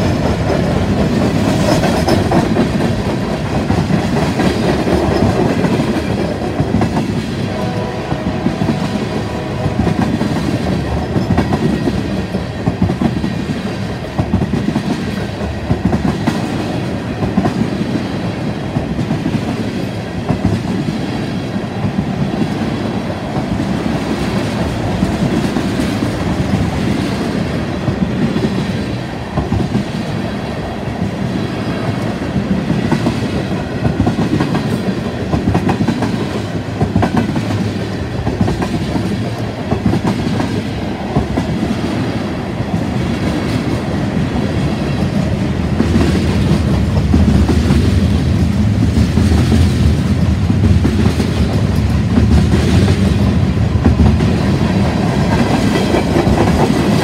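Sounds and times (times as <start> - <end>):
train wheels rumbling on rail: 0.0 - 57.0
wheels clickety-clack over rail joints: 0.0 - 57.0.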